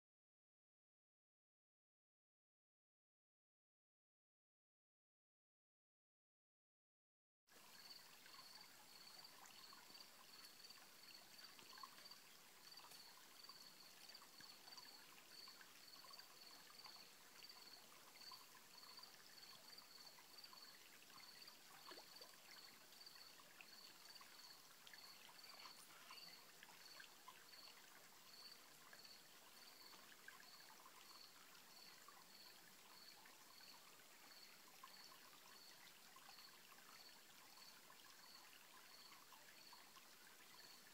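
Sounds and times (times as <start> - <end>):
stream trickling: 7.5 - 40.9.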